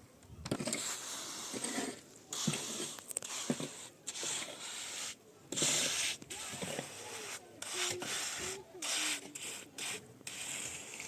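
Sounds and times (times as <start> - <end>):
rasping rubbing strokes: 0.5 - 11.0.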